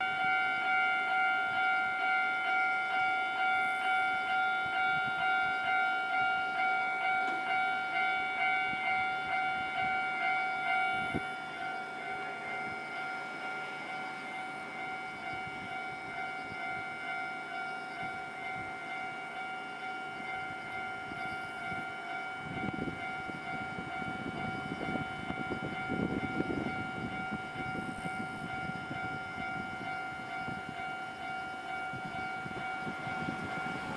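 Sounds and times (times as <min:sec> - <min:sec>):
level crossing alarm bell: 0:00.0 - 0:33.9
train rumbling past: 0:00.0 - 0:33.9.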